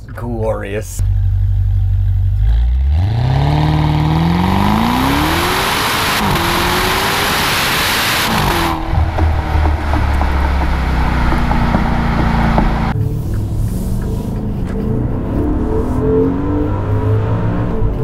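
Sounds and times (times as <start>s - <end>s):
car exhaust accelerating hard: 1.0s - 18.0s.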